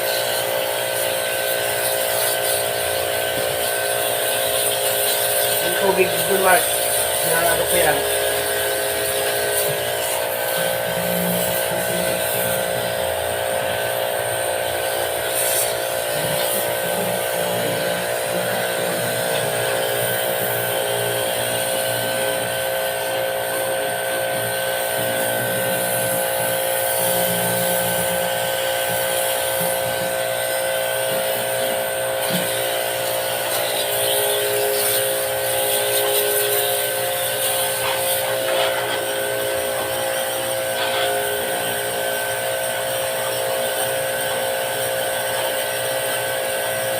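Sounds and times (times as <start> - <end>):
small electric motor buzzing whine: 0.0 - 46.9.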